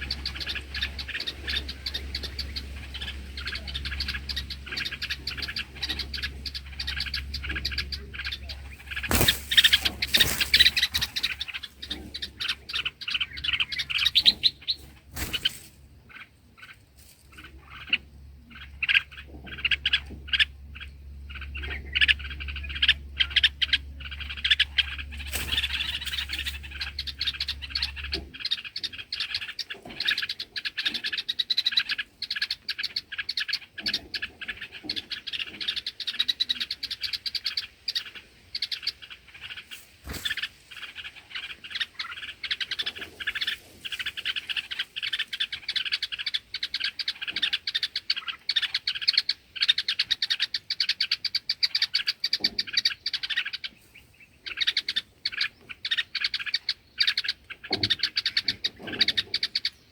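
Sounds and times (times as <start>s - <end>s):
low steady hum: 0.0s - 57.7s
bulbuls chirping: 0.0s - 59.9s.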